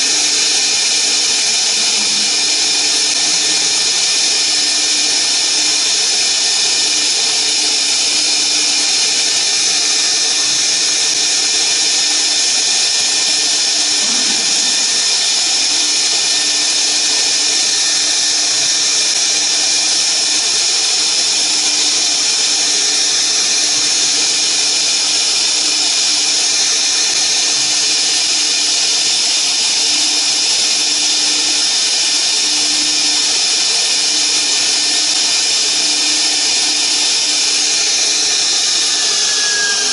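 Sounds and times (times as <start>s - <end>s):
router spindle whining: 0.0s - 30.0s, 32.2s - 39.9s.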